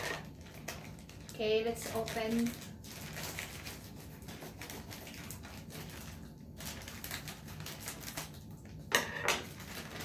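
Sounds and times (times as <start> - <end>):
plastic mailer bag crinkling: 0.0 - 10.0.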